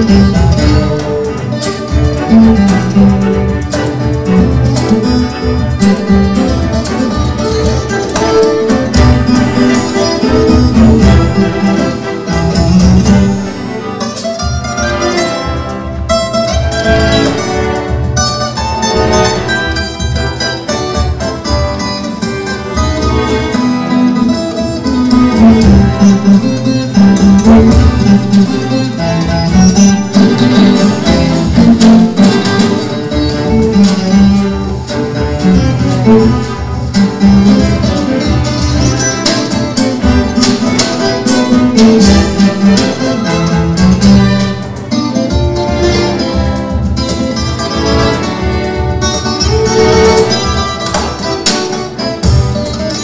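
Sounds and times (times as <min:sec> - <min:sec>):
cello ensemble playing: 0:00.0 - 0:53.0
guitar plucked and strummed: 0:00.0 - 0:53.0.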